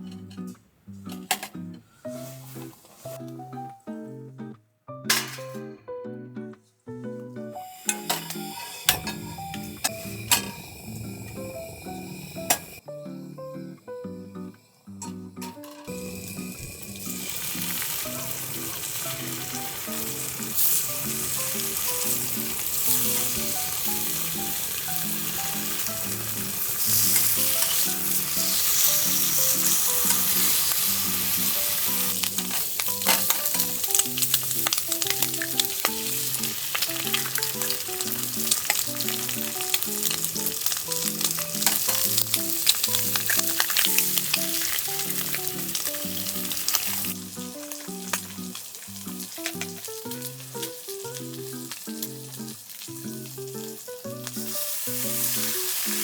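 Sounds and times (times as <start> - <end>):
soft background music: 0.0 - 56.0
food sizzling in a pan: 2.0 - 3.5, 7.5 - 56.0.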